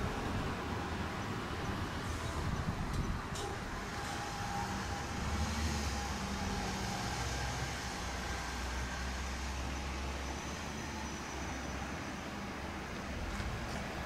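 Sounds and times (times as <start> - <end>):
electric train running hum: 0.0 - 14.0.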